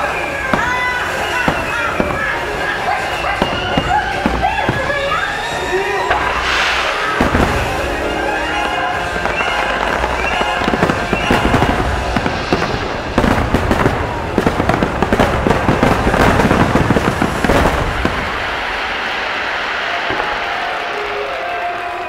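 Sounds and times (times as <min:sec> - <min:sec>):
fireworks booming and crackling: 0:00.0 - 0:22.0.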